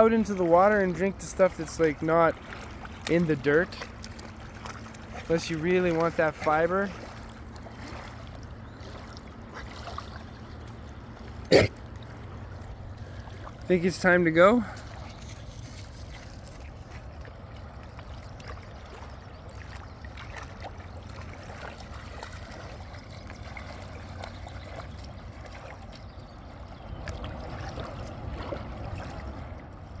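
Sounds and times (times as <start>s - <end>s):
water flowing and trickling: 0.0s - 30.0s.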